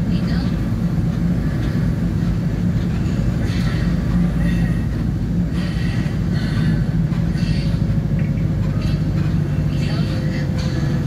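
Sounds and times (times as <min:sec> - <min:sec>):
constant hum: 0:00.0 - 0:11.0
road rumble: 0:00.0 - 0:11.0
vehicle engine drone: 0:00.0 - 0:11.0.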